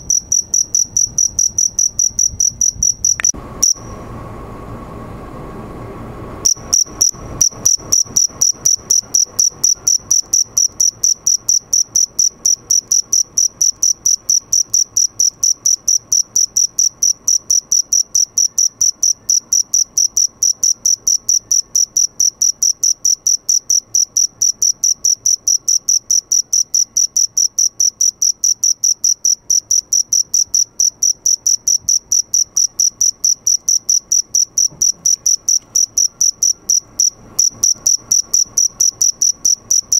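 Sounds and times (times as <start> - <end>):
cricket chirping: 0.0 - 3.9, 6.4 - 39.9.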